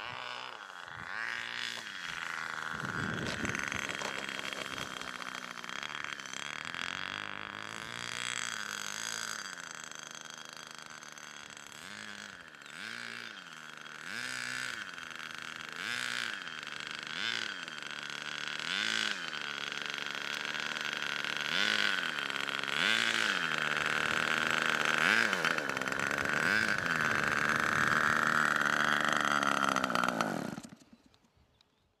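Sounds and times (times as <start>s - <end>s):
model aircraft engine running: 0.0s - 32.0s.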